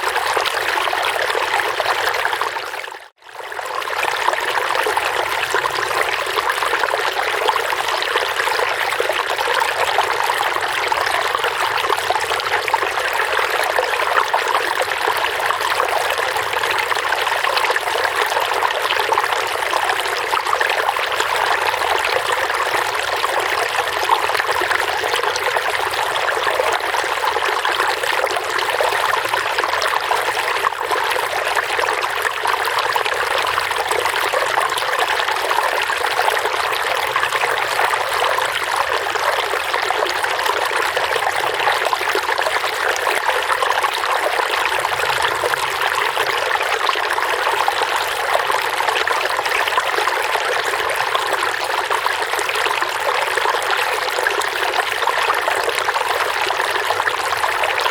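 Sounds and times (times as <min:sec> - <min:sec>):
stream trickling and splashing: 0:00.0 - 0:57.9.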